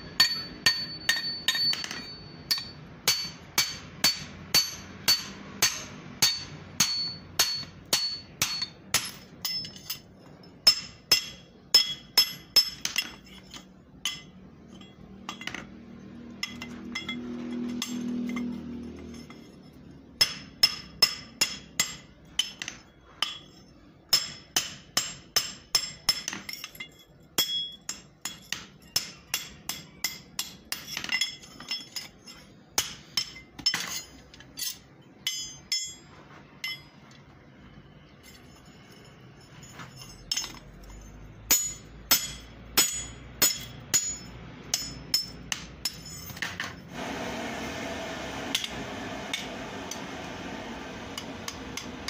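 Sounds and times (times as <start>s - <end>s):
hammer striking metal on anvil: 0.0s - 19.5s, 20.2s - 37.0s, 39.7s - 46.8s, 48.4s - 52.0s.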